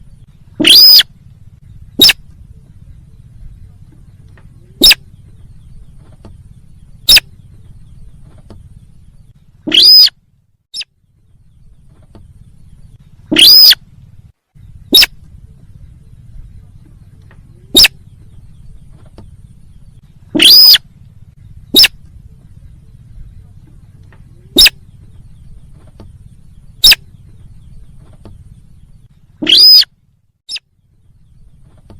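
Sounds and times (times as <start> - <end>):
faint low hum: 0.0 - 31.9
recorded bird calls: 0.0 - 31.9.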